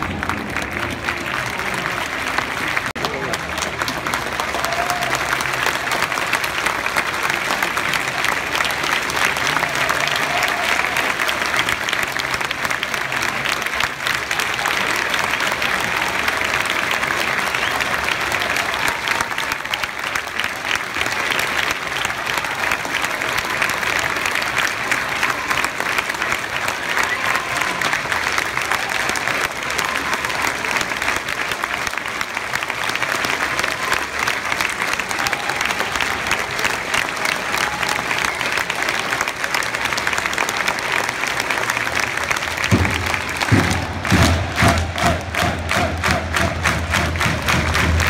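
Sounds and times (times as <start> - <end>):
crowd clapping: 0.0 - 48.0.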